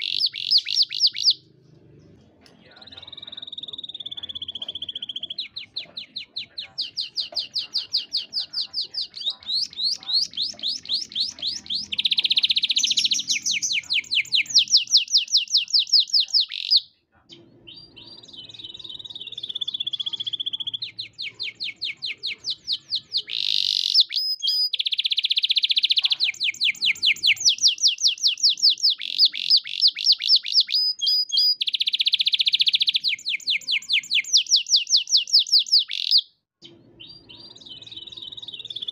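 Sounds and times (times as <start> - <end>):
canary singing with rolling trills: 0.0 - 38.9.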